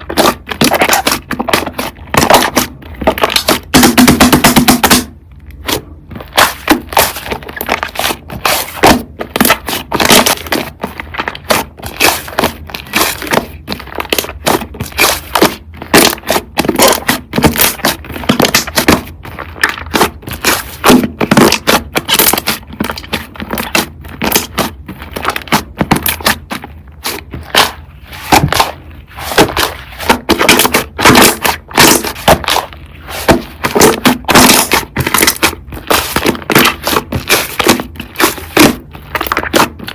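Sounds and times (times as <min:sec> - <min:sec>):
slime crackling and popping: 0:00.0 - 0:04.0, 0:04.9 - 0:39.9.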